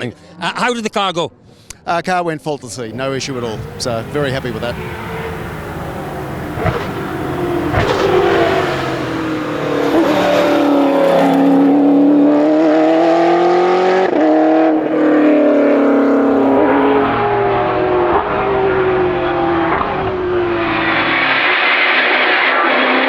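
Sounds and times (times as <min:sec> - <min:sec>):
car engine accelerating: 0:02.8 - 0:22.9.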